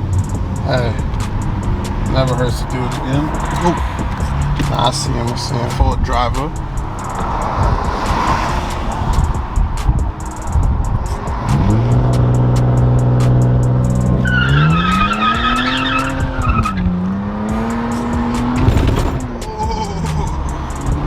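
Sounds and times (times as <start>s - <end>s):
car engine revving: 0.0s - 21.0s
tires squealing: 0.0s - 21.0s.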